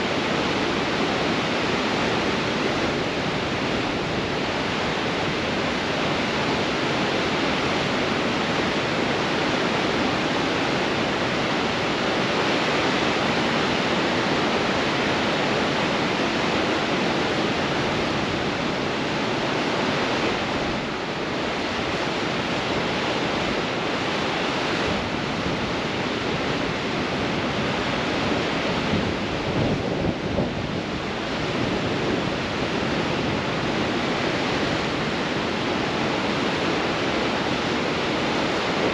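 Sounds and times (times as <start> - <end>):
ocean surf breaking on rocks: 0.0 - 38.9
strong wind: 0.0 - 38.9.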